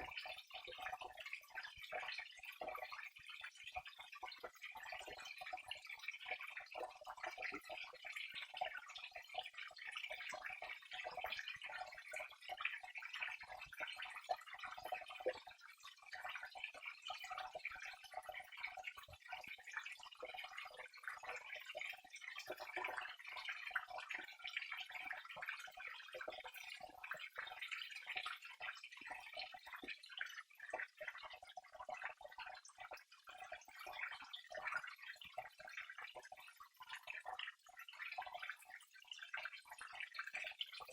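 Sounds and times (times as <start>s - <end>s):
small water drips: 0.0s - 40.9s.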